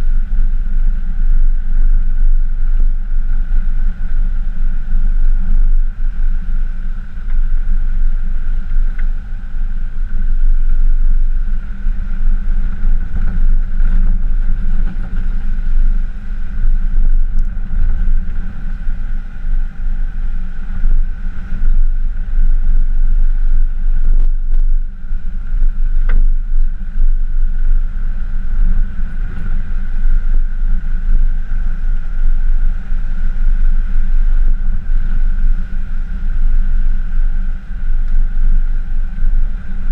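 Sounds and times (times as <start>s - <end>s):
steady whine: 0.0s - 39.9s.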